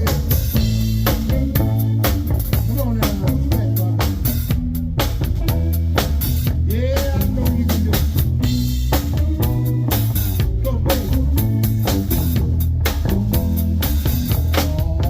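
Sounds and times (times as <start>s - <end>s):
bass line: 0.0s - 15.0s
drum kit beat: 0.0s - 15.0s
sliding bent lead notes: 0.0s - 15.0s.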